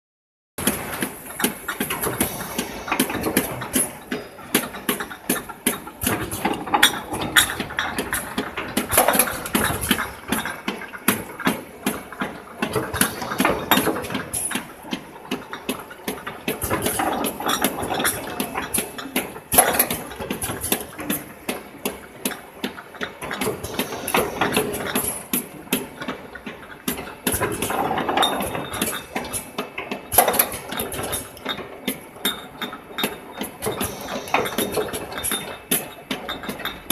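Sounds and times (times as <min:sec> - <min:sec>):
bottles and machine parts clattering: 0:00.6 - 0:36.9.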